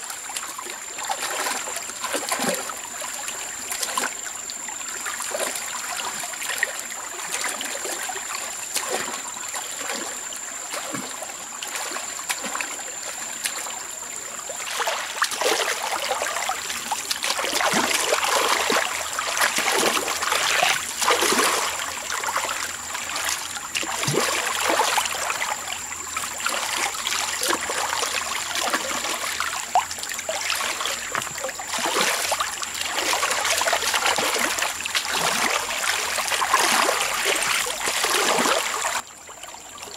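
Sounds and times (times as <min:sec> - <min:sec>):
water splashing over rocks: 0:00.0 - 0:04.3, 0:05.0 - 0:39.0.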